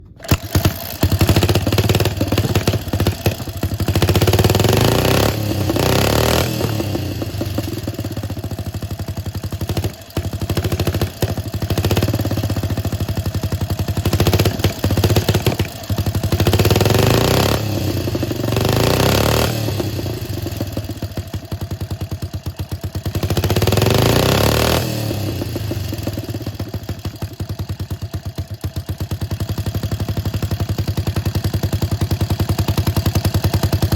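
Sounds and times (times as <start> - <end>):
motorcycle engine revving and idling: 0.0 - 33.9.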